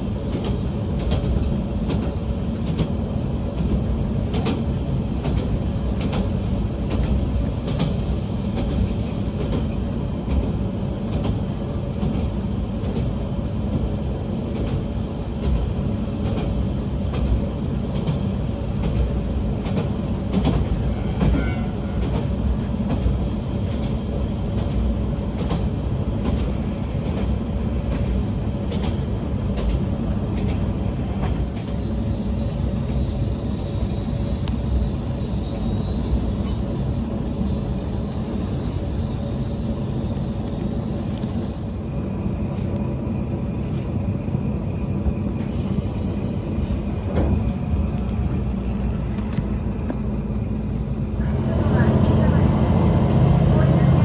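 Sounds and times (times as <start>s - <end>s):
diesel railcar rumble: 0.0s - 54.0s.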